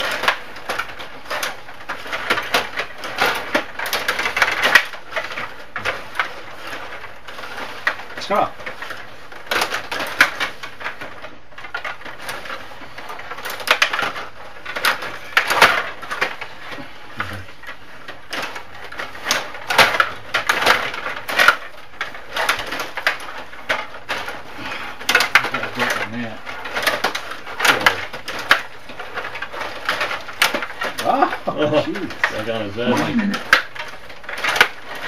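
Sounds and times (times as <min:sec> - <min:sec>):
plastic table game clacking: 0:00.0 - 0:35.0.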